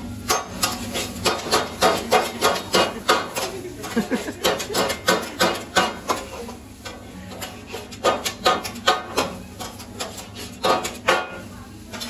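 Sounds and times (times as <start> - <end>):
metal spatulas clanking on griddle: 0.2 - 12.0.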